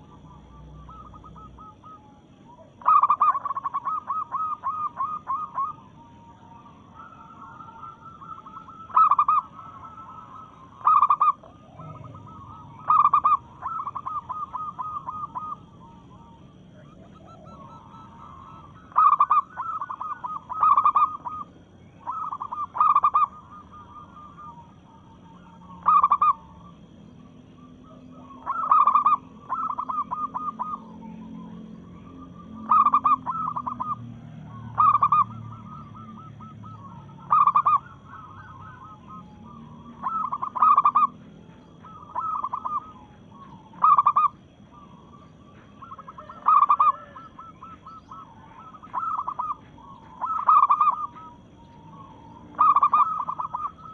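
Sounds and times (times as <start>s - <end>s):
dove calling in stuttering notes: 0.0s - 53.9s
faint steady high tone: 0.0s - 53.9s.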